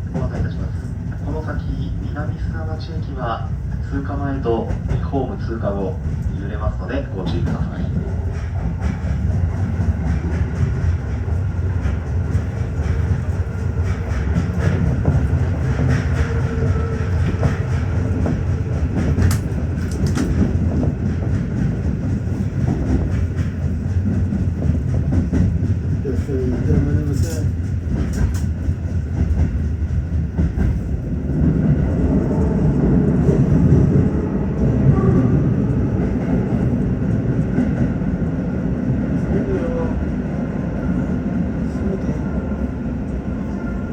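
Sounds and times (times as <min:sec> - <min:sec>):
train low rumble: 0:00.0 - 0:43.9.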